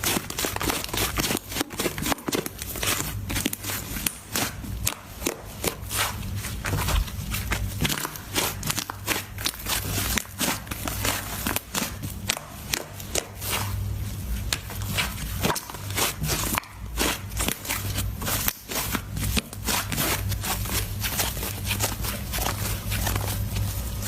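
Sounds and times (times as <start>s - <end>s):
slime crackling and popping: 0.0s - 24.0s.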